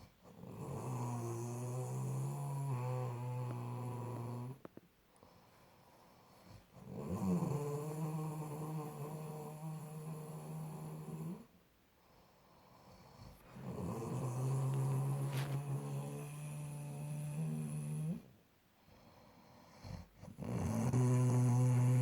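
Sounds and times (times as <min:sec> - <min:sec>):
droning snore: 0:00.0 - 0:04.7, 0:06.5 - 0:11.5, 0:12.8 - 0:18.3, 0:19.0 - 0:22.0.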